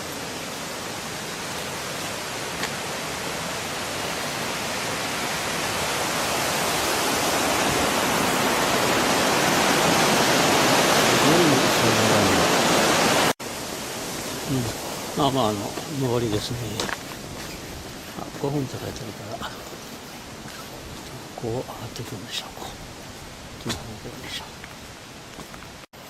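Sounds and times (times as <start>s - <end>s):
rushing stream water: 0.0s - 26.0s.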